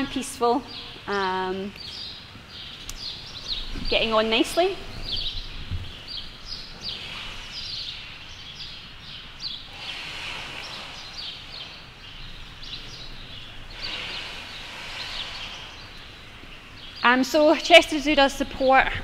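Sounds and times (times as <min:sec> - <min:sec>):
small birds chirping: 0:00.0 - 0:19.0
steady background noise: 0:00.0 - 0:19.0.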